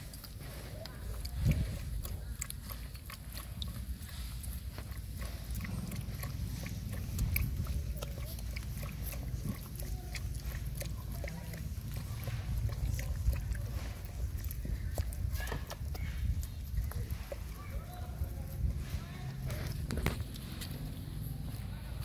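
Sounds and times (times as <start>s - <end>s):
puppies suckling: 0.0s - 22.0s.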